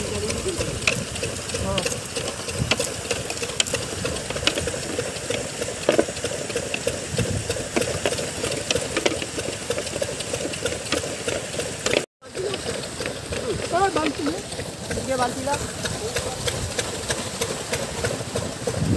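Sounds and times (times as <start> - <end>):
small motor clattering: 0.0 - 18.9
water sloshing: 0.0 - 18.9.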